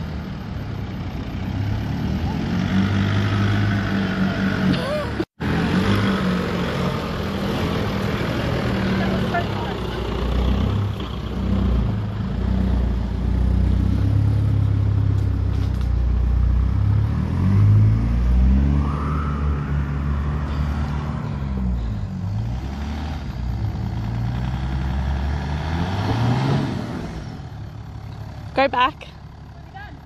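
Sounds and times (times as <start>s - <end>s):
off-road vehicle engine pulling: 0.0s - 30.0s.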